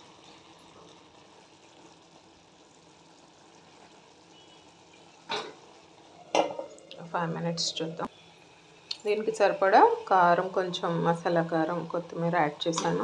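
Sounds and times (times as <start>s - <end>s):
vegetables frying in a pan: 0.0s - 13.0s.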